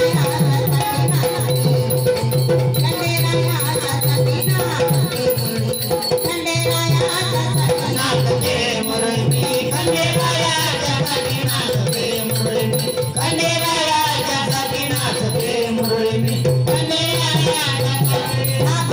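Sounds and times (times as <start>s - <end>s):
jingling rattle percussion: 0.0s - 18.9s
person singing: 0.0s - 18.9s
steady drum beat: 0.0s - 18.9s.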